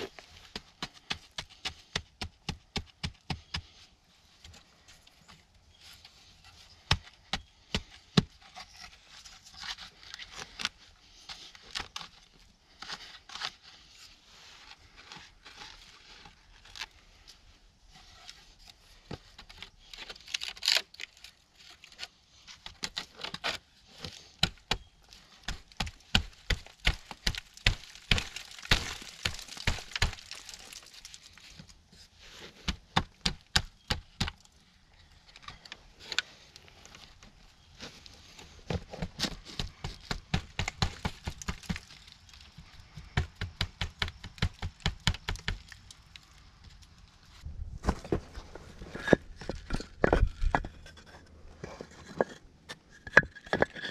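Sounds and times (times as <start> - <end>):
sharp cracks and knocks of wood: 0.0 - 13.7, 18.1 - 53.9.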